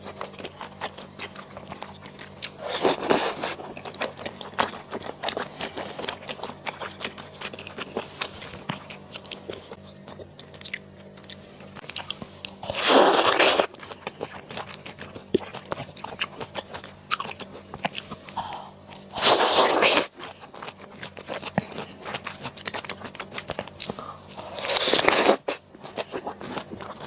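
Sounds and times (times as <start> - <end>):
chewing and crunching food: 0.0 - 27.0.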